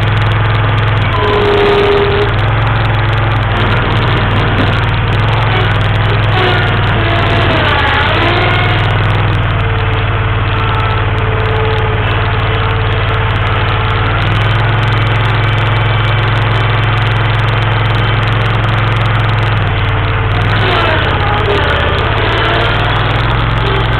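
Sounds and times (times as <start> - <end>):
backhoe engine running: 0.0 - 23.9.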